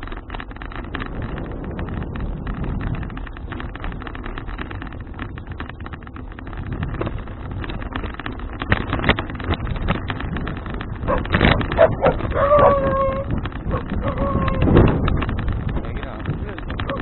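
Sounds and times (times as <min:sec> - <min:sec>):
bicycle rumbling and rattling: 0:00.0 - 0:17.0
wind buffeting microphone: 0:00.0 - 0:17.0.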